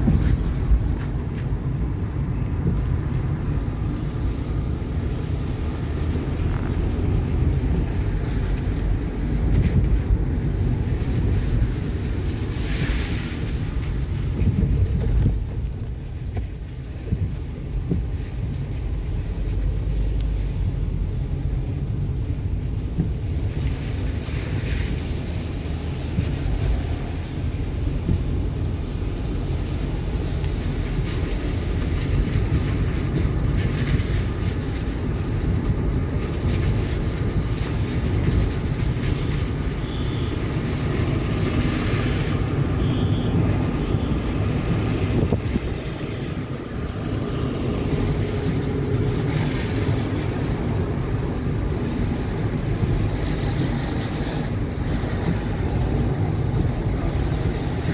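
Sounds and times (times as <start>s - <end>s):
car cabin road rumble: 0.0s - 57.9s.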